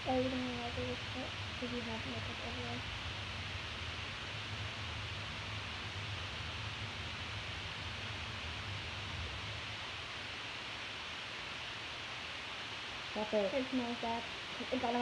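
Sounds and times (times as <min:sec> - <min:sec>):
even hiss: 0:00.0 - 0:15.0
low hum: 0:00.0 - 0:15.0.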